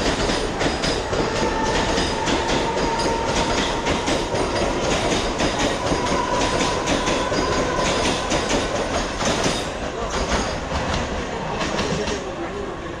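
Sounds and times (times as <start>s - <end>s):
train wheels clattering over rail joints: 0.0s - 12.3s.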